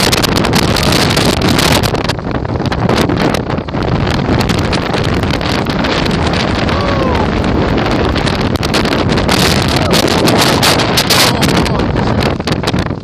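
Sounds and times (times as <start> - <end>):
storm wind buffeting microphone: 0.0 - 13.0.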